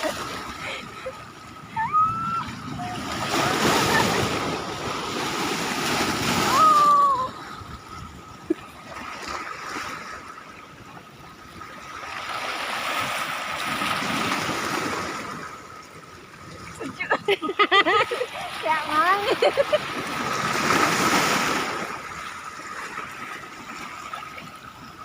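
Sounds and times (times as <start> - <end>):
sea waves washing ashore: 0.0 - 25.0.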